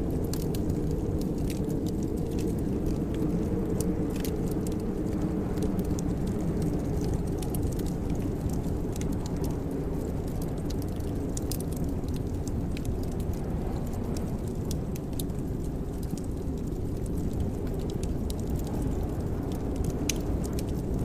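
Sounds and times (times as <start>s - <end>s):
wood fire burning with crackles: 0.0s - 21.0s.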